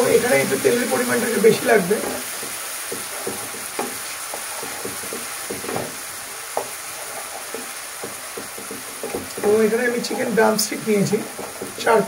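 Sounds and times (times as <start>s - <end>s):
onion sizzling in hot oil: 0.0s - 12.0s
utensil scraping and knocking pan: 0.1s - 10.4s, 11.0s - 12.0s.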